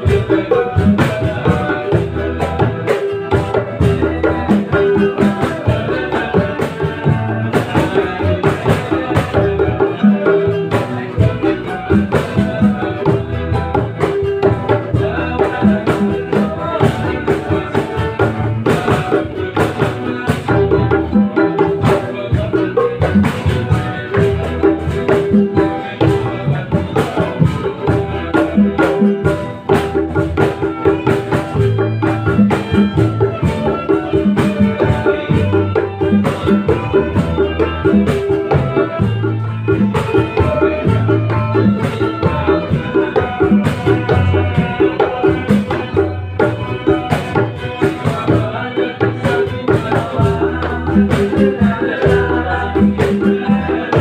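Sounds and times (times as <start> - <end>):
hand drum strokes: 0.0 - 54.0.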